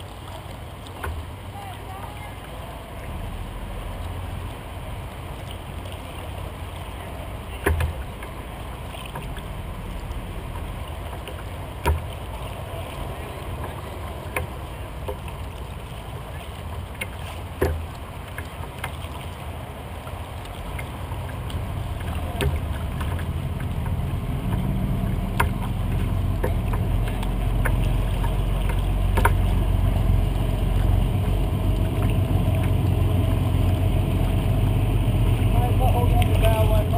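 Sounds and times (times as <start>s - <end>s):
low rumble: 0.0s - 36.9s
water lapping against kayak hull: 0.0s - 36.9s.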